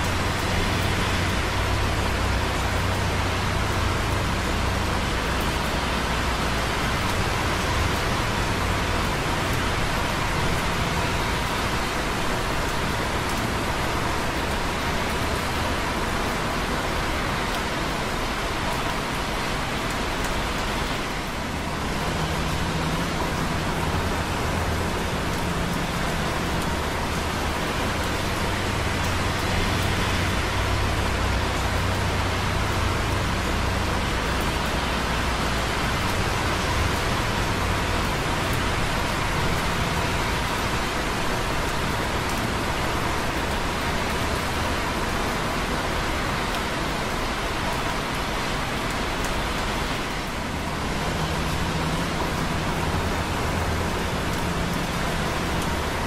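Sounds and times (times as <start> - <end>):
distant traffic on wet roads: 0.0 - 56.0
rain dripping on concrete: 0.0 - 56.0.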